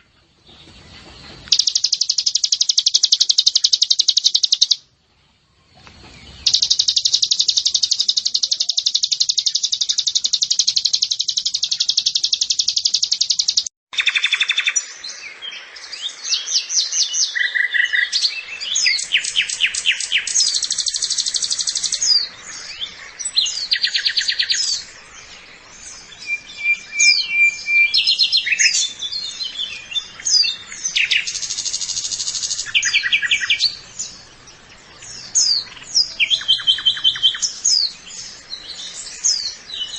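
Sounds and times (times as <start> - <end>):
bird trilling and chirping: 1.4 - 4.9, 6.0 - 14.9, 17.0 - 39.9.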